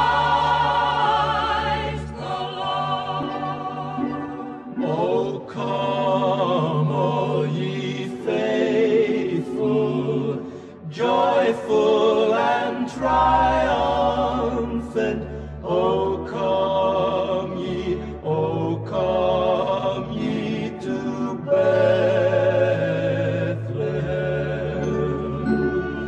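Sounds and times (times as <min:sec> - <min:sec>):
male vocal group singing: 0:00.0 - 0:26.0.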